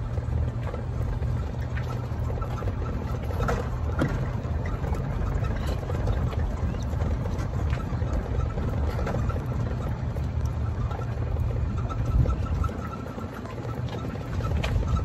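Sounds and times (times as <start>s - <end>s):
golf cart engine rumble: 0.0s - 15.0s.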